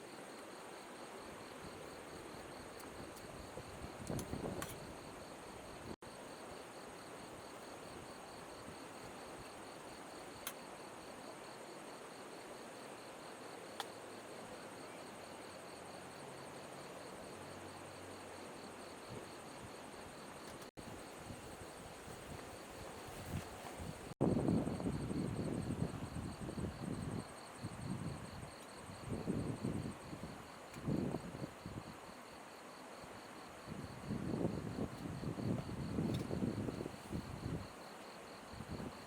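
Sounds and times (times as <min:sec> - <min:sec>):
crickets trilling: 0:00.1 - 0:39.0.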